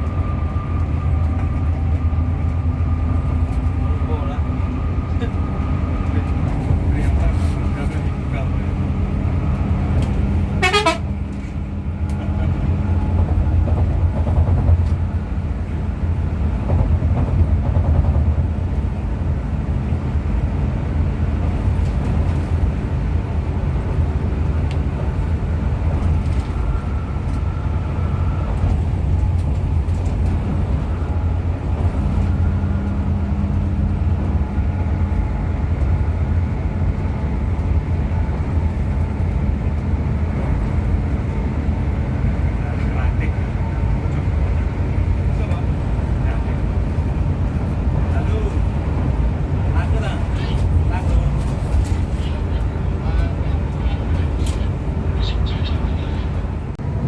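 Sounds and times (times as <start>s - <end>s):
bus diesel engine rumble: 0.0s - 57.0s
road noise: 0.0s - 57.0s.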